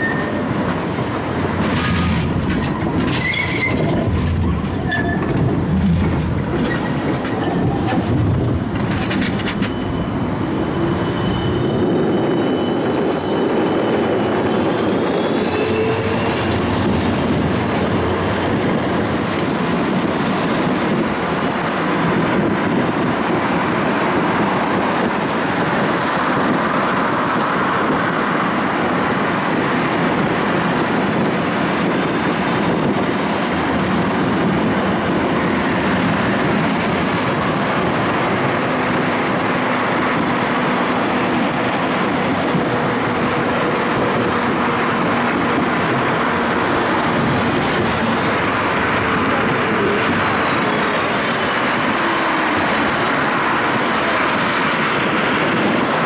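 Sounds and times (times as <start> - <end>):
high wheel squeal: 0.0 - 5.3, 6.6 - 23.4, 24.0 - 25.1, 31.0 - 37.6, 38.4 - 56.0
tram wheels rumbling on rails: 0.0 - 56.0.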